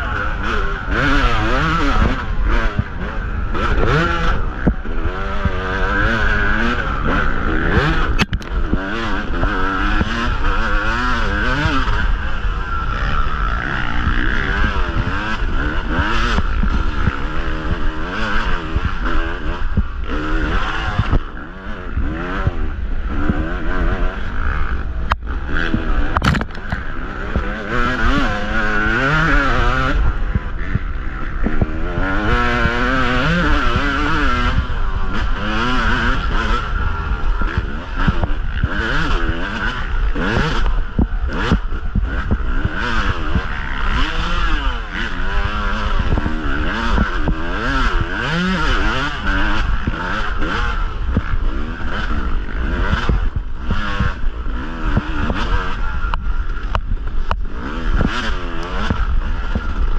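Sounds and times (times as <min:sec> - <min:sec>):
dirt bike engine revving: 0:00.0 - 0:59.9
wind rumble on microphone: 0:00.0 - 0:59.9.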